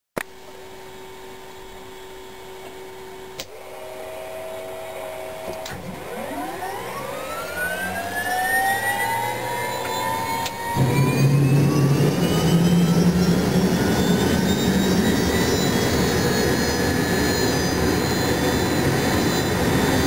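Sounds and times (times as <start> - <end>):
turbine whine rising in pitch: 3.5 - 20.0.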